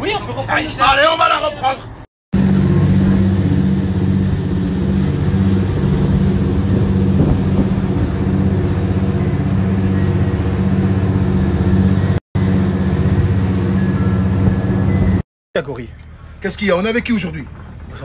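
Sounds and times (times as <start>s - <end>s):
engine droning: 1.3s - 18.0s.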